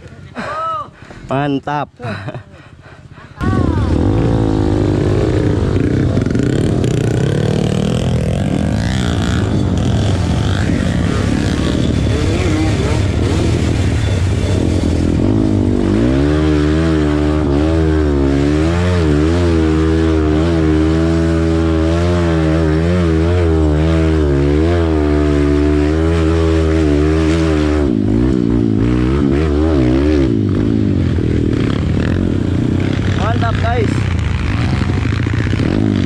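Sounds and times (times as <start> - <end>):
motorcycle engine revving: 3.4 - 36.0.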